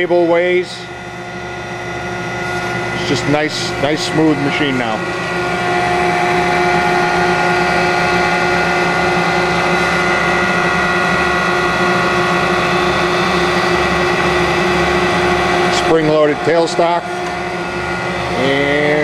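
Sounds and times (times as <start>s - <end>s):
grinder machine humming: 0.0s - 19.0s.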